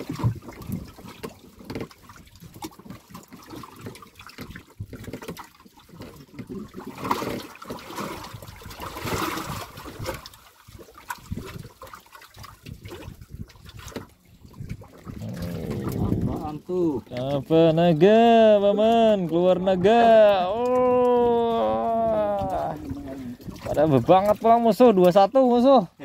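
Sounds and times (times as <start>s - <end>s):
water lapping against boat hull: 0.0s - 26.0s.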